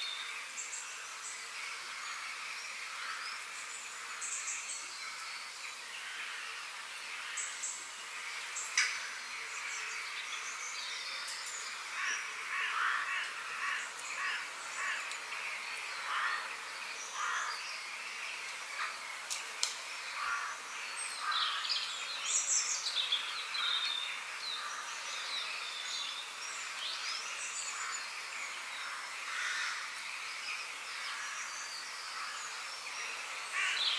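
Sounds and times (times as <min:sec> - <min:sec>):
birds calling and chirping: 0:00.0 - 0:33.9
outdoor hiss: 0:00.0 - 0:33.9.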